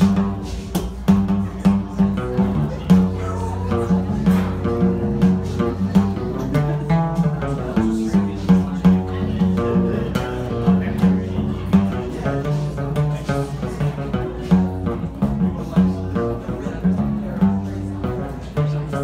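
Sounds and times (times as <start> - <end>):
guitar picking notes: 0.0 - 19.0
low bass notes: 0.0 - 19.0.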